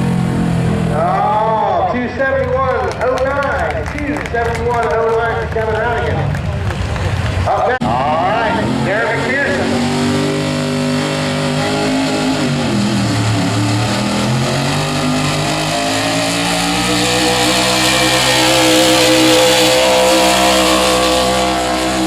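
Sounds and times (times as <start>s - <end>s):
vehicle engine working hard: 0.0s - 22.0s.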